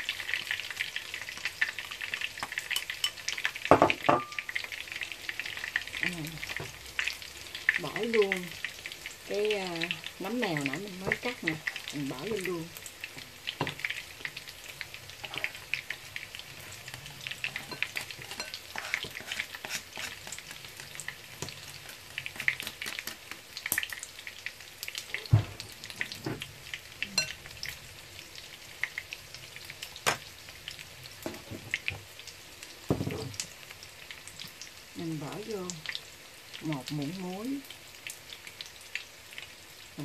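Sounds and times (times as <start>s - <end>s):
tofu frying in hot oil: 0.0s - 40.0s.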